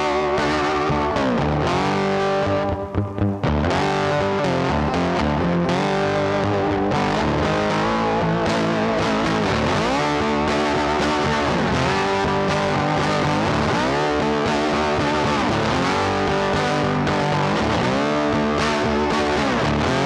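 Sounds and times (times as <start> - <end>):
distorted electric guitar music: 0.0 - 20.0.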